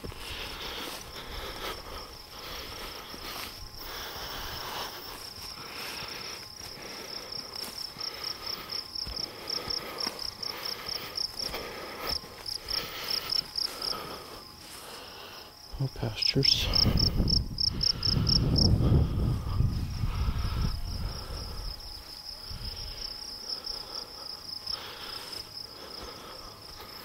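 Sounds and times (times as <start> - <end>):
grass rustling under footsteps: 0.0 - 27.0.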